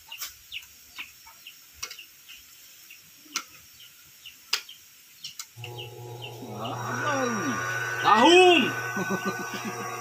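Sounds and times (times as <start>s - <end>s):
bird chirping: 0.0s - 9.8s.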